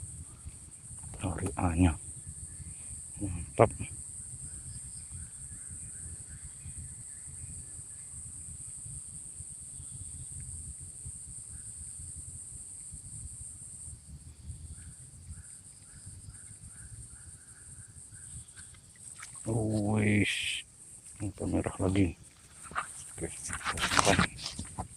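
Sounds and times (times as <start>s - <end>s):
high-pitched insect drone: 0.0s - 24.9s.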